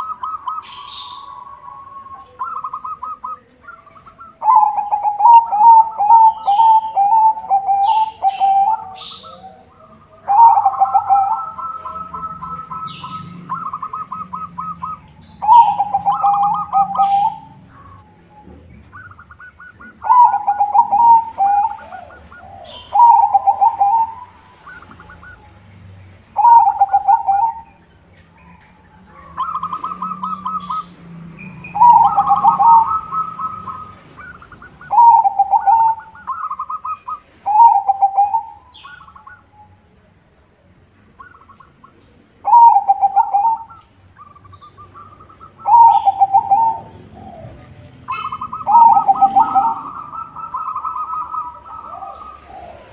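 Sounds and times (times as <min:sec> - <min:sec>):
dove trilling and cooing: 0:00.0 - 0:52.9.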